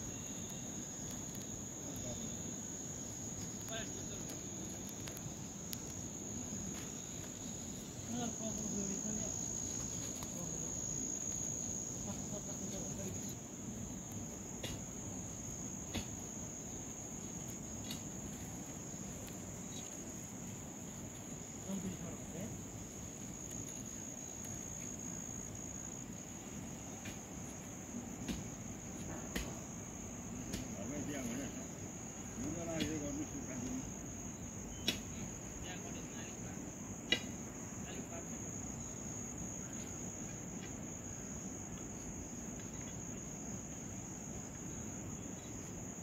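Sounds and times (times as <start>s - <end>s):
insects trilling: 0.0s - 46.0s.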